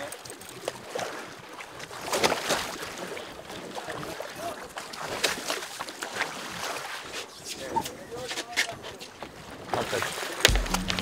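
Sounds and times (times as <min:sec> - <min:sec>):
water splashing against boat hull: 0:00.6 - 0:11.0.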